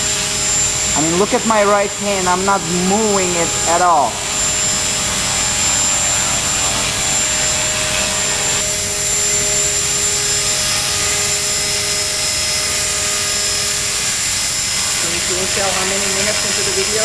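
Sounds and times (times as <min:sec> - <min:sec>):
electric motor and gears whining: 0:00.0 - 0:17.0
rotor blades buzzing: 0:00.0 - 0:17.0.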